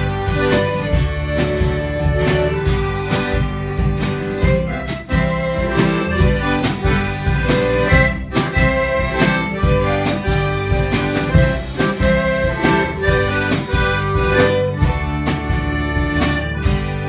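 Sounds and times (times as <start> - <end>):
instrumental band music: 0.0 - 17.0.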